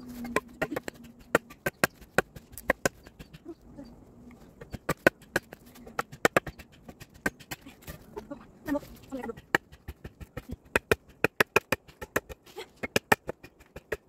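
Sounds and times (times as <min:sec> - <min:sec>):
blade chopping firewood: 0:00.1 - 0:03.5, 0:04.5 - 0:14.0.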